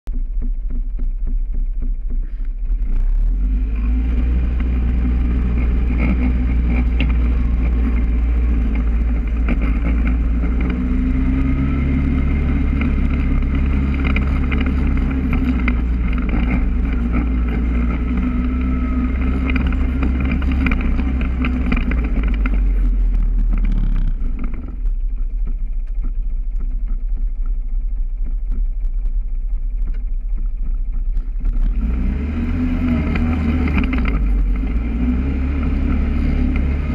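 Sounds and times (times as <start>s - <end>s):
atv engine running: 0.1s - 36.9s.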